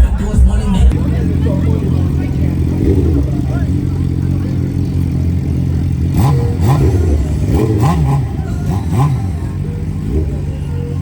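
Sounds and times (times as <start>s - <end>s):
engine revving over idle: 0.0s - 11.0s.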